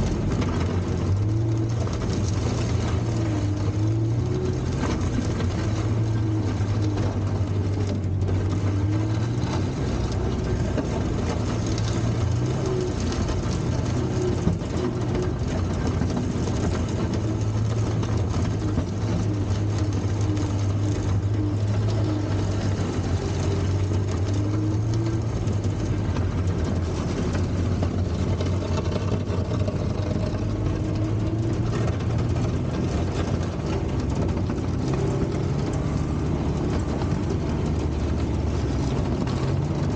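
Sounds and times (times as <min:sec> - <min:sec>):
tractor engine running at low revs: 0:00.0 - 0:39.9.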